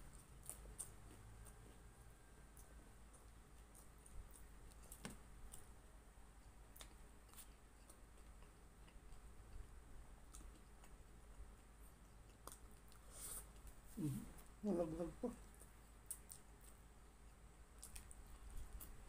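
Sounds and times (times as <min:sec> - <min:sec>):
person eating by hand: 0:00.1 - 0:19.0.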